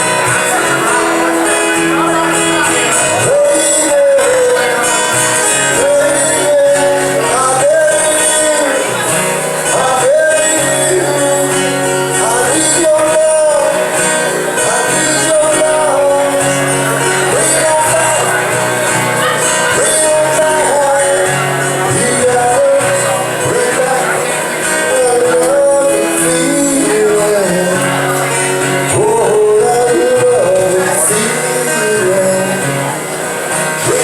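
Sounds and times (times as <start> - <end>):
country song: 0.0 - 34.0.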